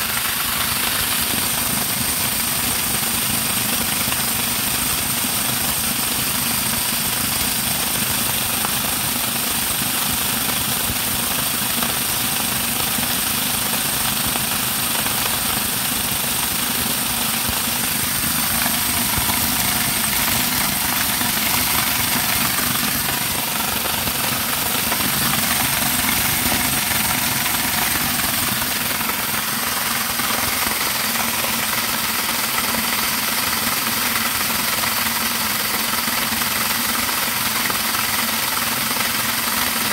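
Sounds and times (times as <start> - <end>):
motor-driven corn grinder whirring: 0.0 - 39.9.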